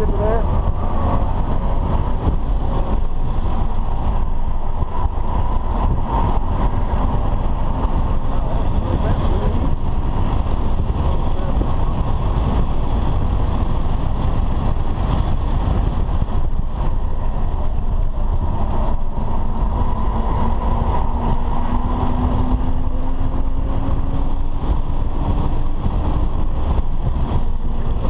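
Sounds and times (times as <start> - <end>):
car engine accelerating: 0.0 - 28.0
road and wind noise: 0.0 - 28.0.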